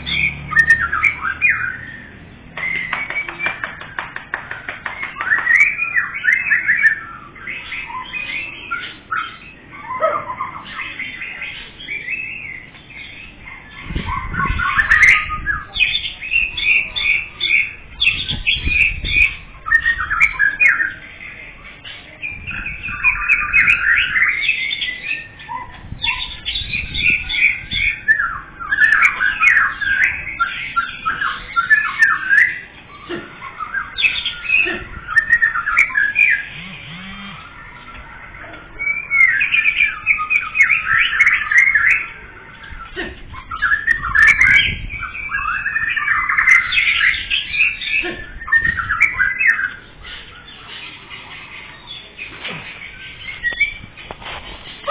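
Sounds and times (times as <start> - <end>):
songbirds chirping and singing: 0.0 - 54.9.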